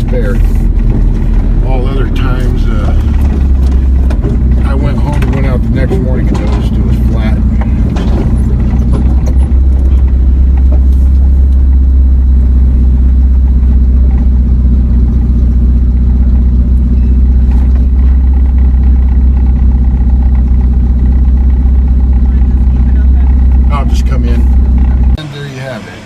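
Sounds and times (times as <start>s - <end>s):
road noise: 0.0s - 26.0s
vehicle engine rumble: 0.0s - 26.0s.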